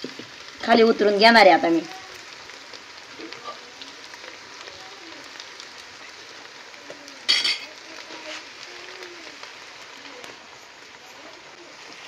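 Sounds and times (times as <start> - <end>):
meat sizzling in a steel pot: 0.0 - 12.0.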